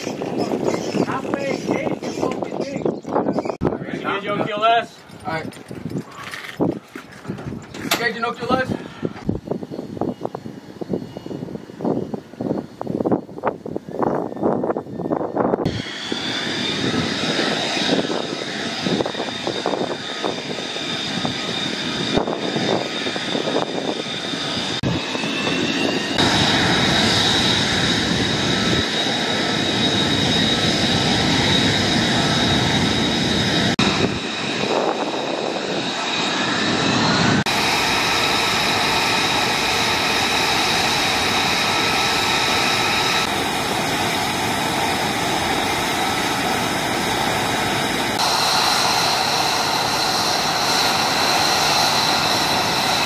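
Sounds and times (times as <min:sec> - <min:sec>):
jet engine whine and roar: 0:00.0 - 0:53.0.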